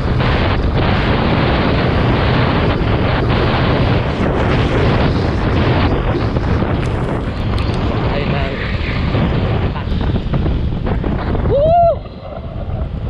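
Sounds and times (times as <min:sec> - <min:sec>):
motorcycle engine drone: 0:00.0 - 0:13.0
wind rushing over microphone: 0:00.0 - 0:13.0.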